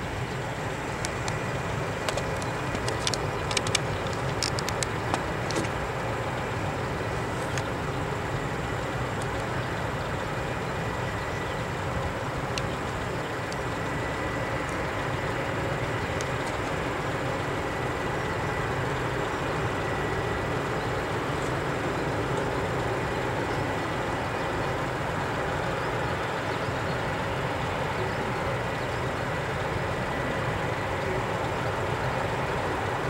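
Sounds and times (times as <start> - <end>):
turboprop engines droning: 0.0 - 33.0.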